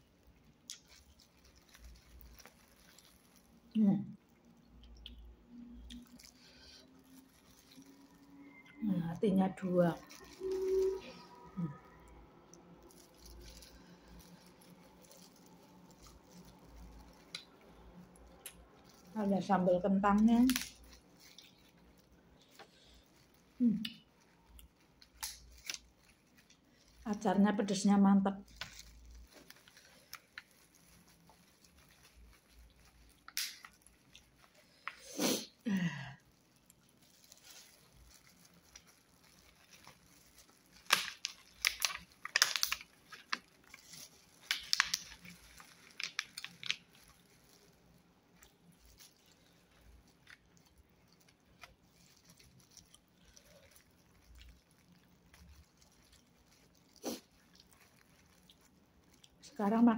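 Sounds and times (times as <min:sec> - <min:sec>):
person crunching food: 0:00.0 - 0:08.9, 0:09.6 - 0:27.3, 0:28.3 - 0:59.6.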